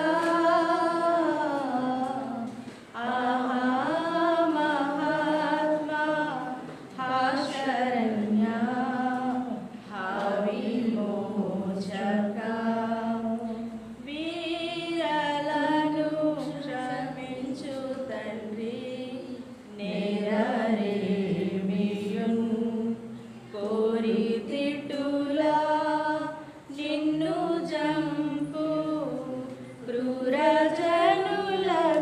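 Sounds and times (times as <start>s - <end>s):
person singing a hymn: 0.0s - 32.0s.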